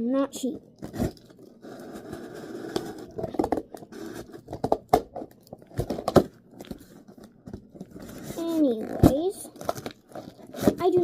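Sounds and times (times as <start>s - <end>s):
packaging rustling: 0.8s - 11.0s.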